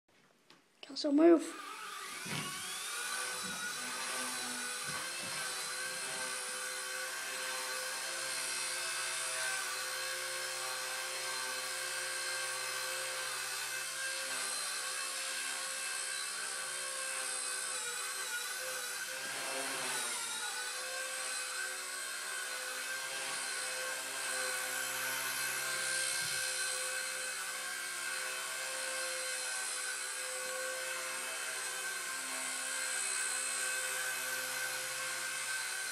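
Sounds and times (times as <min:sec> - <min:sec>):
rc helicopter rotor whine: 0:01.4 - 0:35.9.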